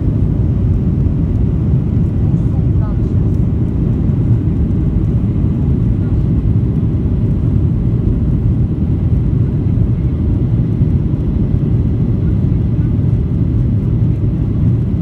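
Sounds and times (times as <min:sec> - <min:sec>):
jet engine low rumble: 0:00.0 - 0:15.0.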